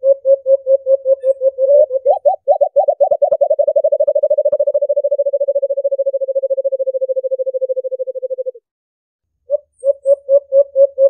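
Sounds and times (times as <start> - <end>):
dove hooting trill: 0.0 - 8.6, 9.5 - 11.0.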